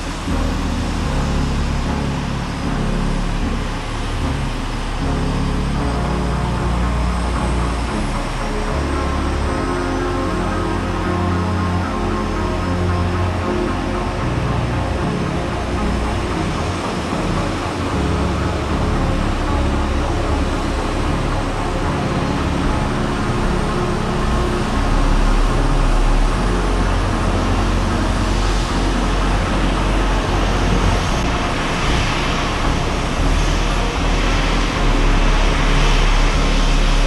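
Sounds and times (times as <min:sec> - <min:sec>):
jet engine rushing rumble: 0:00.0 - 0:37.0.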